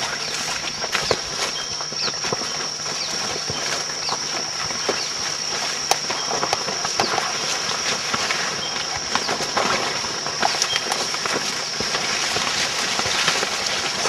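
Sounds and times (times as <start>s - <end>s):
footsteps on leaves and twigs: 0.0s - 14.0s
high-pitched insect drone: 0.0s - 14.0s.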